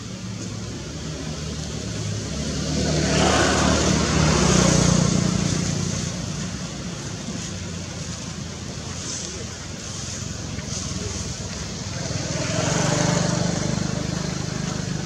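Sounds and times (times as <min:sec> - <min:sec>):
motor vehicle passing: 0:01.0 - 0:15.0.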